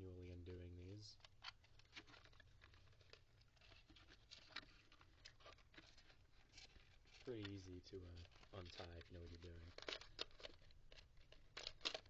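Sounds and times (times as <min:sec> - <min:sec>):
cardboard and paper rustling: 0:00.9 - 0:12.0.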